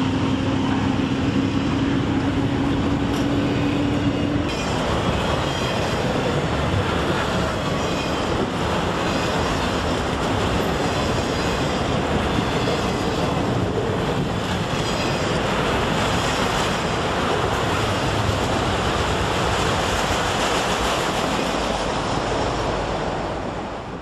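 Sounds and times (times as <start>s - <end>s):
freight train rushing past: 0.0s - 24.0s
wind buffeting microphone: 0.0s - 24.0s.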